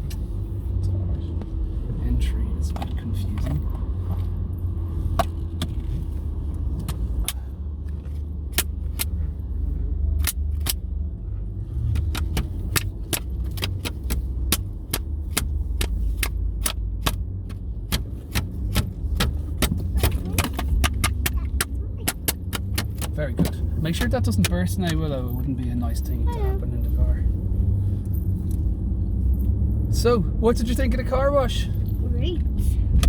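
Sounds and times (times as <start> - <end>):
engine and road rumble: 0.0 - 33.0.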